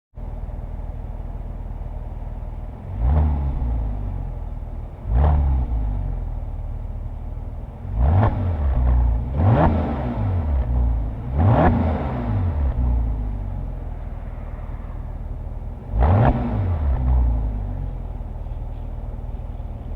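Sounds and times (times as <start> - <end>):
car exhaust revving: 0.2 - 19.9.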